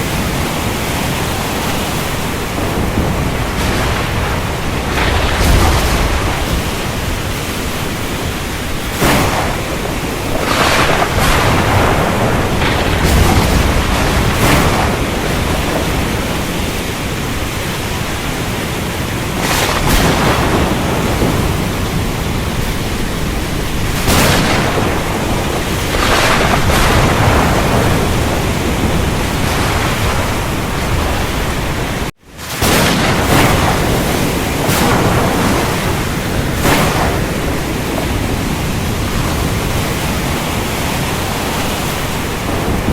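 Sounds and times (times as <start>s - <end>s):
heavy rain hissing: 0.0s - 42.9s
low rolling thunder: 0.0s - 42.9s
sharp thunder cracks: 0.0s - 42.9s.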